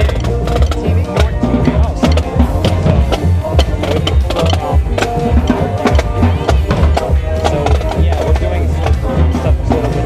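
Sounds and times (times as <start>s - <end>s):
loud music with heavy bass beat: 0.0s - 10.0s.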